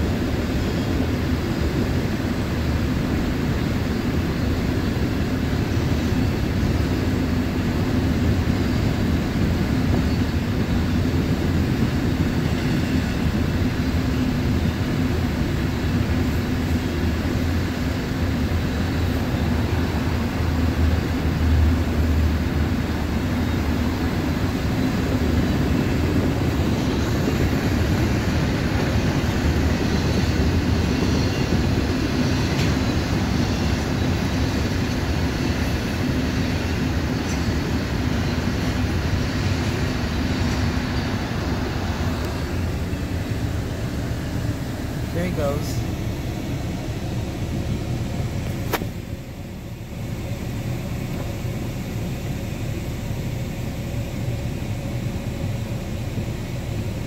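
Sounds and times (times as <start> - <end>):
train wheels rolling on rail: 0.0 - 57.0.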